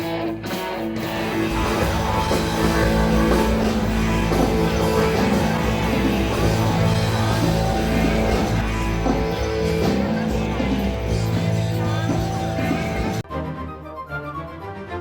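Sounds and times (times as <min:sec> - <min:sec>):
live rock band playing: 0:00.0 - 0:13.2.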